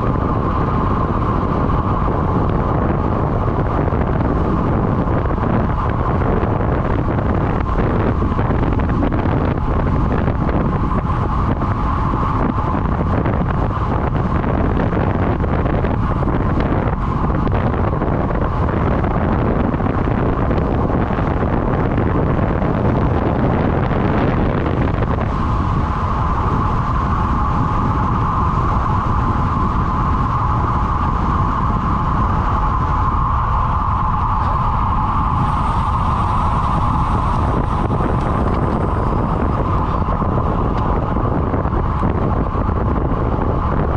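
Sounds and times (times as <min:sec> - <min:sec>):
rolling road noise: 0:00.0 - 0:43.9
wind rushing over microphone: 0:00.0 - 0:43.9.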